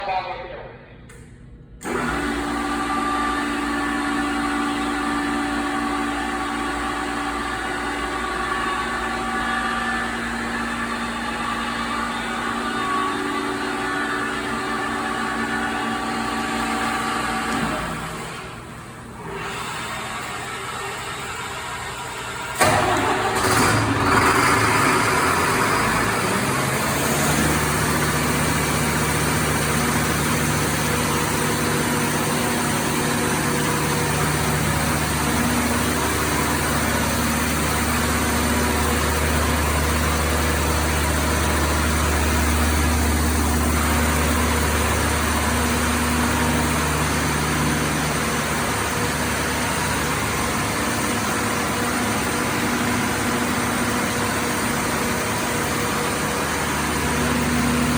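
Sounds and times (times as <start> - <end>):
diesel engine running: 1.8 - 57.9.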